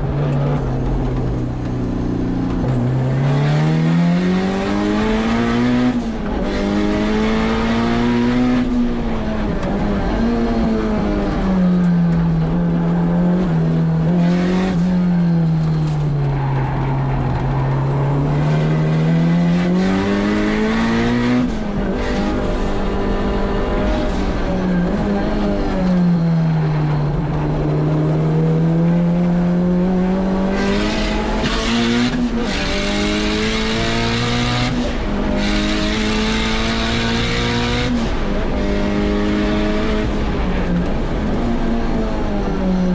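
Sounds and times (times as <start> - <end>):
car engine accelerating and slowing: 0.0 - 42.9.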